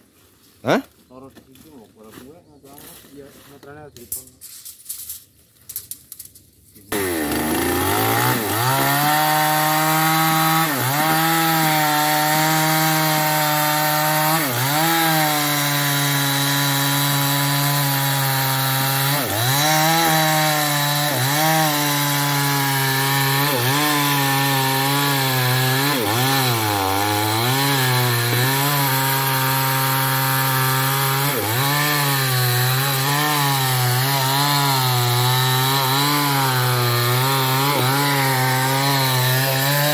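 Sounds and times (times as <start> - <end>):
chainsaw cutting wood: 6.9 - 39.9.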